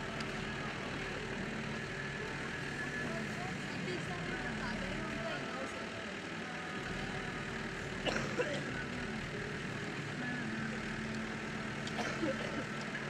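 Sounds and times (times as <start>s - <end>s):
faint distant voices: 0.0s - 13.0s
low engine-like hum: 0.0s - 13.0s.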